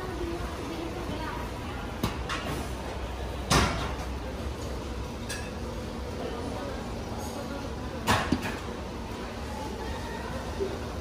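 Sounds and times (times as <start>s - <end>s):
murmur of voices: 0.0s - 11.0s.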